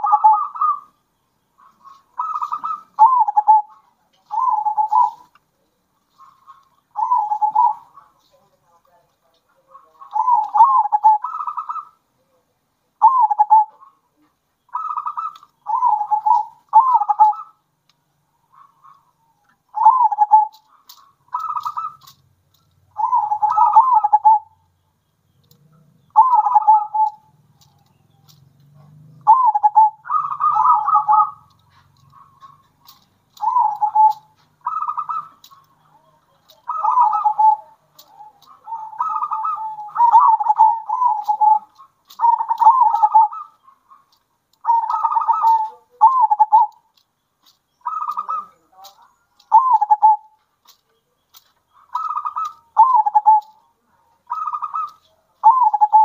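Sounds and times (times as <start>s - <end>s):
doves cooing: 0.0s - 8.8s, 9.4s - 12.4s, 13.0s - 24.7s, 25.4s - 56.0s.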